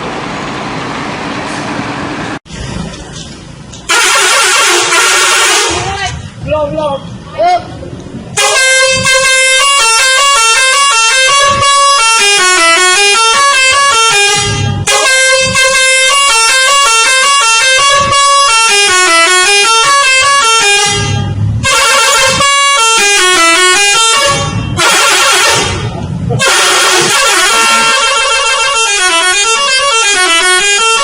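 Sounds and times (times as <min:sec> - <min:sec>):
bus musical horn playing a tune: 0:03.9 - 0:06.2, 0:08.4 - 0:31.0.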